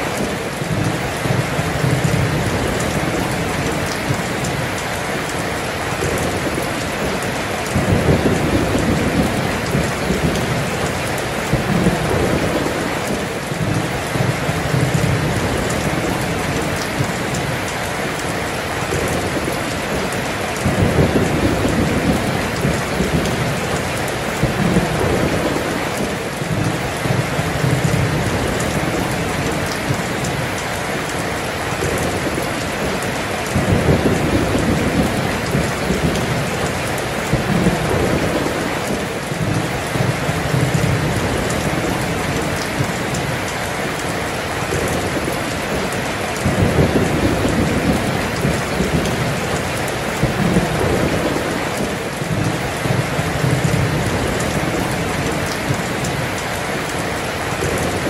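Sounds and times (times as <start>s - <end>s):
low rolling thunder: 0.0s - 56.4s
heavy rain pouring: 0.0s - 58.0s.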